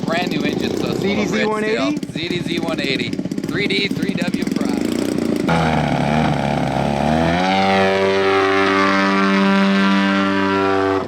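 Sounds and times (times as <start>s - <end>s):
model aircraft engine revving: 0.0s - 11.0s.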